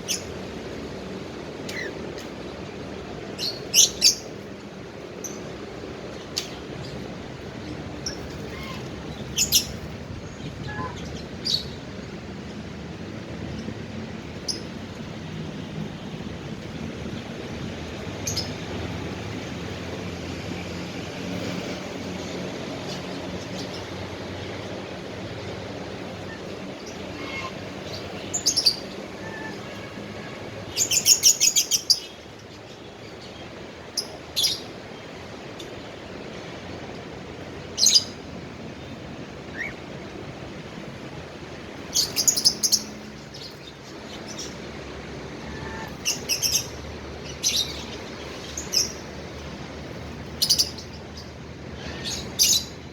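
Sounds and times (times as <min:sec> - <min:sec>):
steady background noise: 0:00.0 - 0:52.9.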